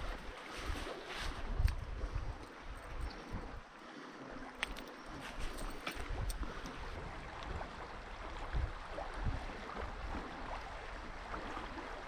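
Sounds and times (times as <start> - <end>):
wind buffeting microphone: 0.0 - 3.8, 4.4 - 12.0
shallow rocky river rushing: 0.0 - 12.0.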